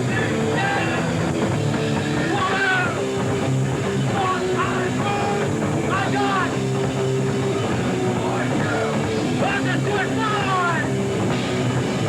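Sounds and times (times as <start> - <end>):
bass guitar: 0.0 - 12.0
distorted electric guitars: 0.0 - 12.0
drums: 0.0 - 12.0.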